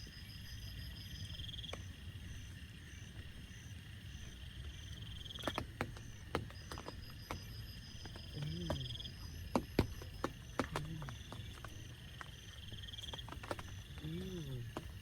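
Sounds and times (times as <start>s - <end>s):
frogs calling: 0.0s - 15.0s
insects trilling: 0.0s - 15.0s.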